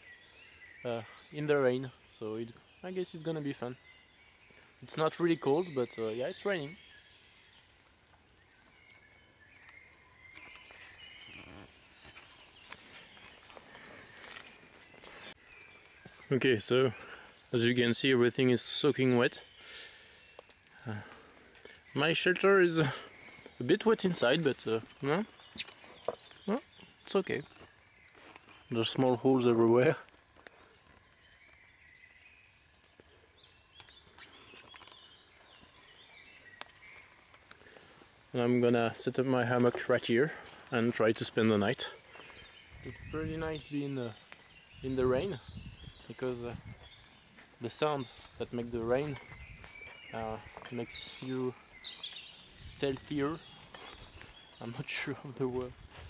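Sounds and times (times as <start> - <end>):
bird calling: 0.0 - 56.0
faint rain falling: 0.1 - 49.4.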